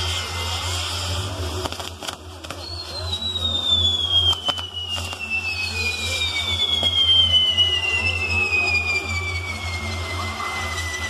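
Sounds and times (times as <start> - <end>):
firework whistle falling in pitch: 0.0 - 11.0.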